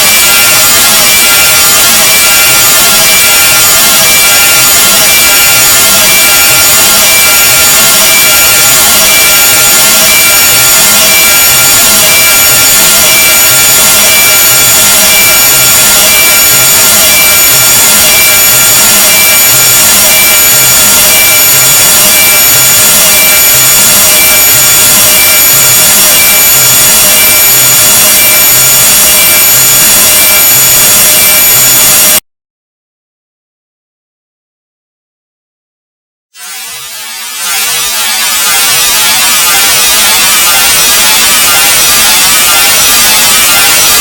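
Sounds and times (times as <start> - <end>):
steady high tones: 0.0 - 32.2, 36.4 - 44.0.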